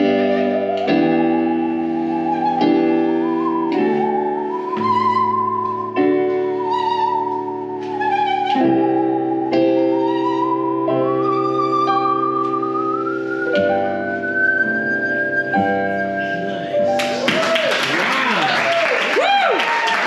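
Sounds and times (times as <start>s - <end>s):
bowed musical saw melody: 0.0s - 17.3s.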